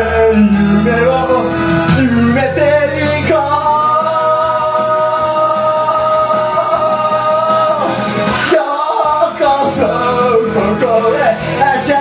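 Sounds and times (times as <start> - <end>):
loud backing track: 0.0 - 12.0
man singing into a microphone: 0.0 - 12.0.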